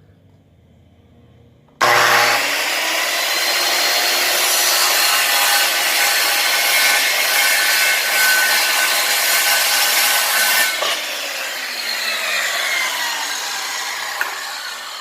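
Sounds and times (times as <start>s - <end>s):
circular saw cutting plank: 1.8s - 15.0s.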